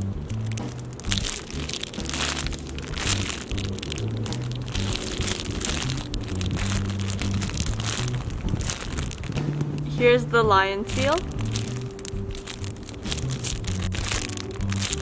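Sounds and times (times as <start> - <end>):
background music: 0.0 - 15.0
plastic bag crinkling: 0.0 - 15.0.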